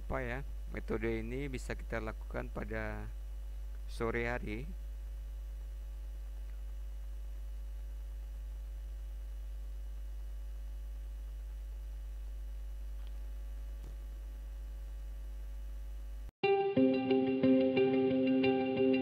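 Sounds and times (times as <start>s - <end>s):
electrical mains hum: 0.0s - 16.3s.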